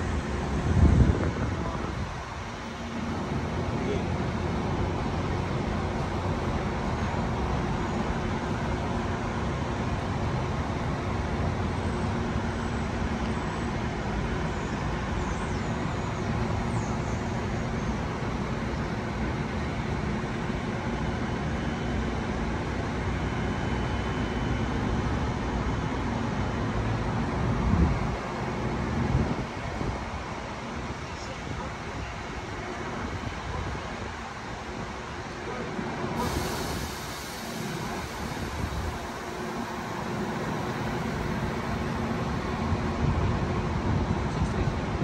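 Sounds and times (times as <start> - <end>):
rumble of vehicles running: 0.0 - 45.0.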